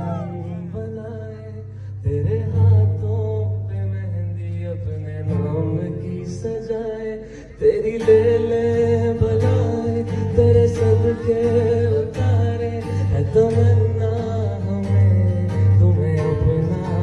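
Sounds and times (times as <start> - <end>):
acoustic guitar: 0.0 - 17.0
man singing slow song: 0.0 - 17.0.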